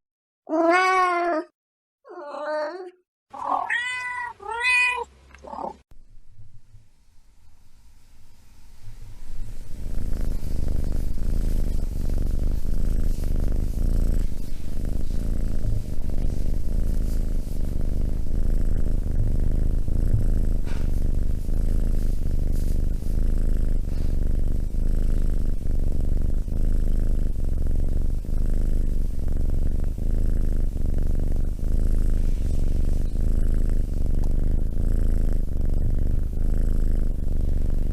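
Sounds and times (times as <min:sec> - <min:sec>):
cat purring: 0:05.3 - 0:05.9, 0:07.6 - 0:37.9.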